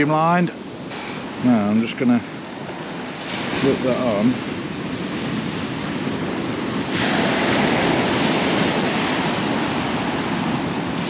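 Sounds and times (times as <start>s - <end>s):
waves breaking on shore: 0.0s - 11.0s
wind buffeting microphone: 0.0s - 11.0s.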